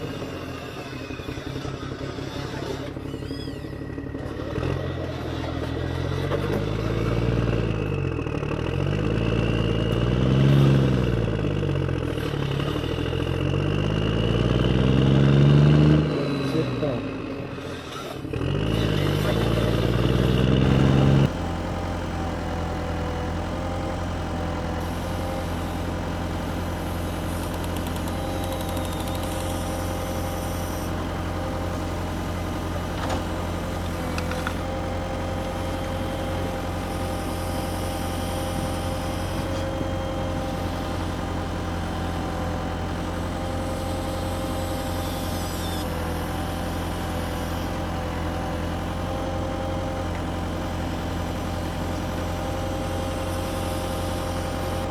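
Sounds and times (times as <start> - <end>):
toy excavator motor droning: 0.0 - 54.9.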